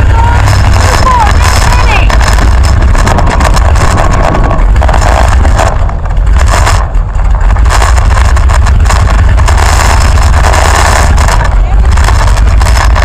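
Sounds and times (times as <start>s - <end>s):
car engine running: 0.0s - 13.0s
wind buffeting microphone: 0.0s - 13.0s.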